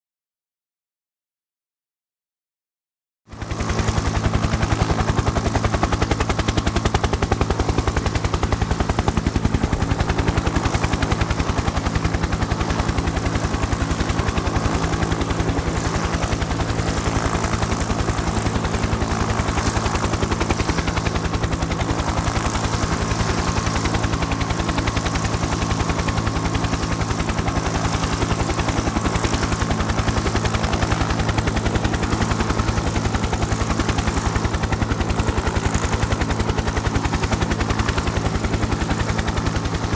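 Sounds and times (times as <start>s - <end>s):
helicopter engine drone: 3.3s - 39.9s
helicopter rotor chop: 3.3s - 39.9s.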